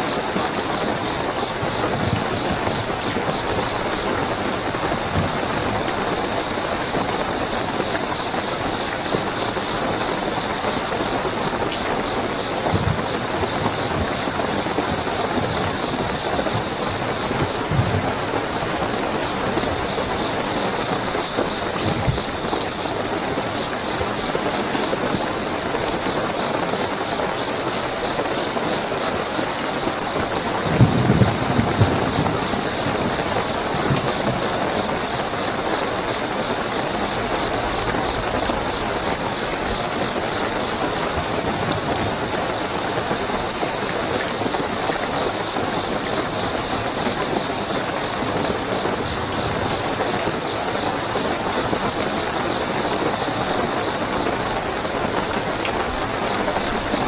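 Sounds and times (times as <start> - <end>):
crickets trilling: 0.0 - 57.0
heavy rain: 0.0 - 57.0.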